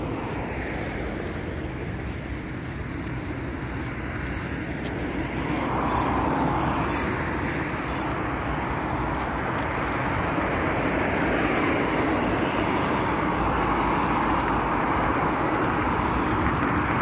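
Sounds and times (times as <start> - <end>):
car passing on wet road: 0.0 - 17.0
road traffic noise: 0.0 - 17.0.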